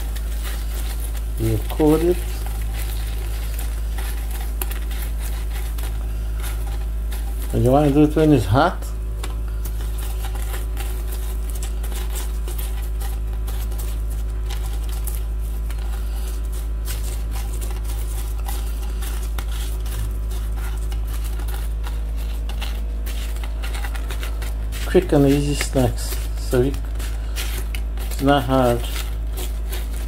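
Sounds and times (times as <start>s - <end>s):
dough balls rolled in sugar: 0.0s - 30.0s
steady low hum: 0.0s - 30.0s.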